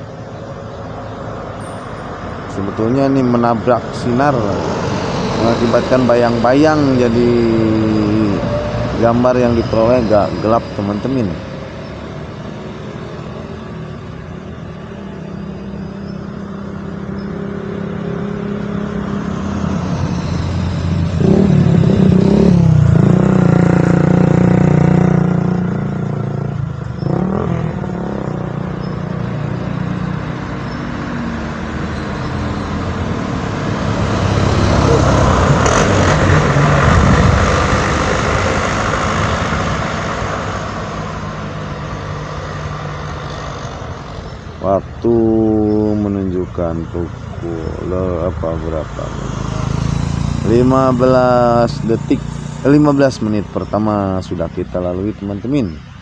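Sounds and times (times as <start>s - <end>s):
vehicles driving past: 0.0s - 56.0s.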